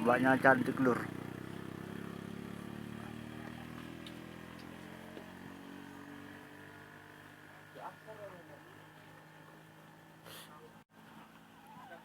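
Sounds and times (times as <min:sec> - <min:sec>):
vehicle engine climbing a hill: 0:00.0 - 0:11.6.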